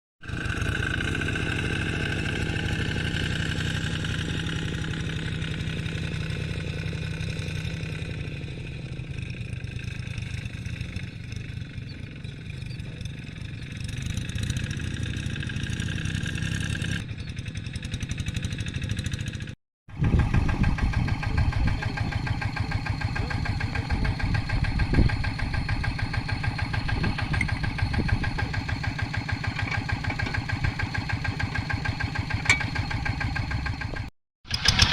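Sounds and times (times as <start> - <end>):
diesel hand tractor engine running: 0.2 - 34.9.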